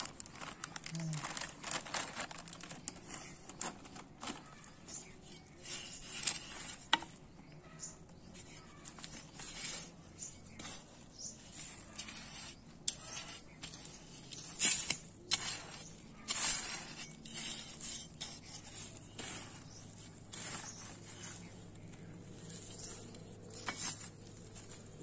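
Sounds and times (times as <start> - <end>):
rustling and scraping: 0.0 - 25.0.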